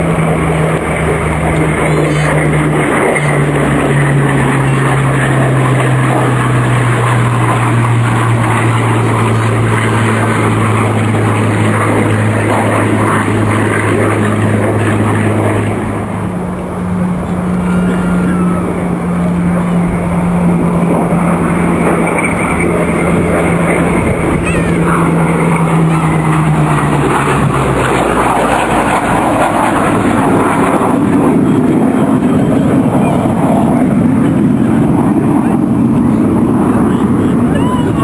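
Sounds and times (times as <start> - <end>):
propeller aircraft engines droning: 0.0 - 38.0.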